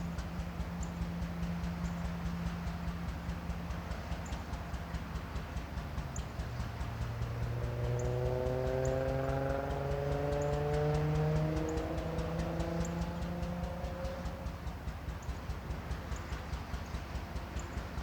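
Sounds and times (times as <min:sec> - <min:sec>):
locomotive engine running: 0:00.0 - 0:18.0.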